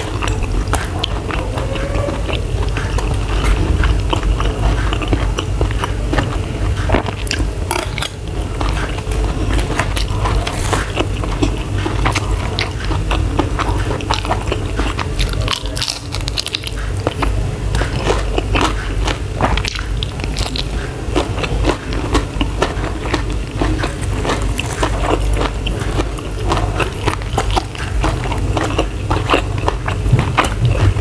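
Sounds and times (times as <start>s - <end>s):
close chewing and crunching: 0.0s - 31.0s.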